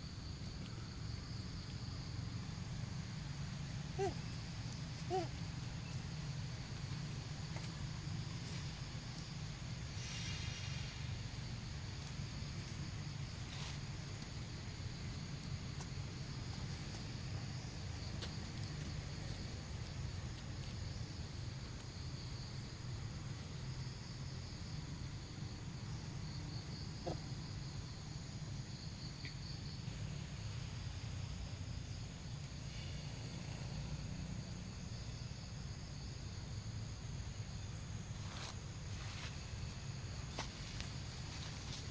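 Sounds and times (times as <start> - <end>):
high-pitched insect chorus: 0.0 - 41.9
low continuous rumble: 0.0 - 41.9.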